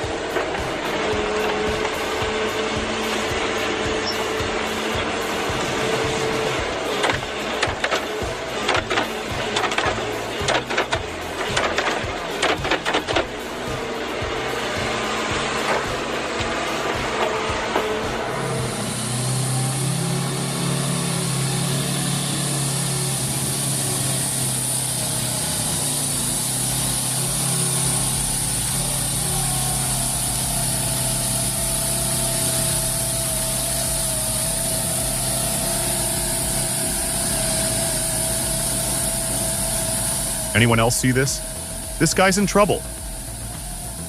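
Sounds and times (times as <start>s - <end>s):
machine engine running: 0.0s - 44.0s
steady whine: 0.0s - 44.0s.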